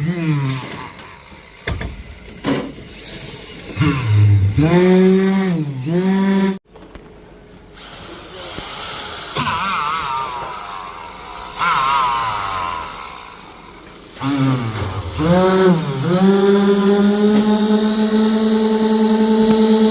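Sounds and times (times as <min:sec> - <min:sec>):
power tool motor humming: 0:00.0 - 0:06.6, 0:07.8 - 0:19.9.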